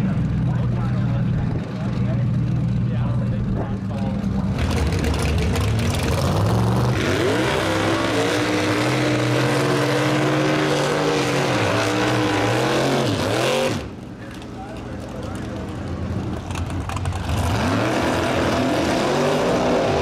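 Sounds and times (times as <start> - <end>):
car engine revving: 0.0 - 14.1, 15.2 - 20.0.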